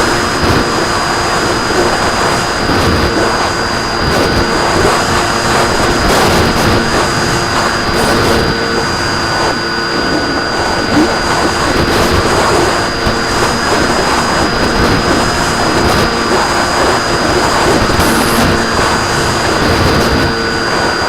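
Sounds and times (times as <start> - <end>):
loud wind rush: 0.0 - 21.0
model plane motor and propeller: 0.0 - 21.0
thin high whine: 0.0 - 21.0.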